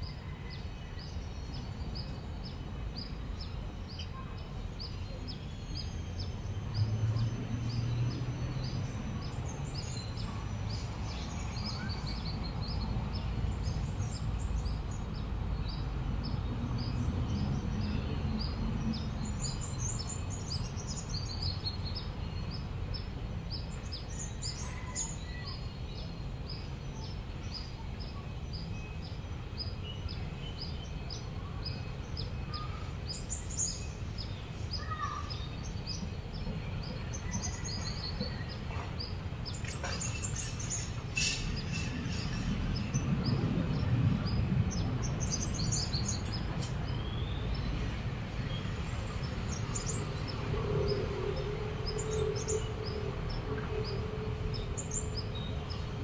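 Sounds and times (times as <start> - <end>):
birds chirping: 1.2 - 56.0.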